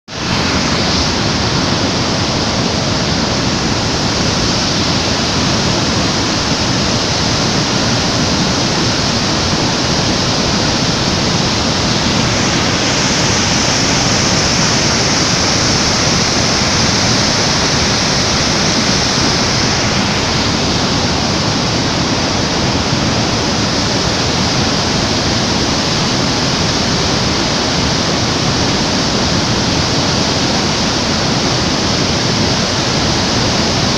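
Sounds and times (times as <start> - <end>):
waterfall roaring: 0.1 - 33.9.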